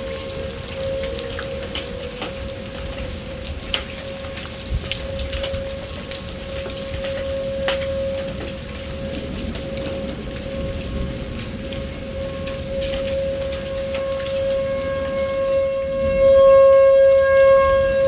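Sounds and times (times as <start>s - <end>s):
heavy rain falling: 0.0s - 18.0s
raindrops ticking on a surface: 0.0s - 18.0s
siren steady tone: 0.0s - 18.0s.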